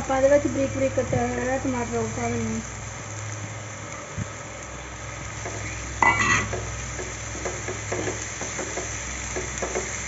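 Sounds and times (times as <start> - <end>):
vegetables sizzling: 0.0 - 10.0.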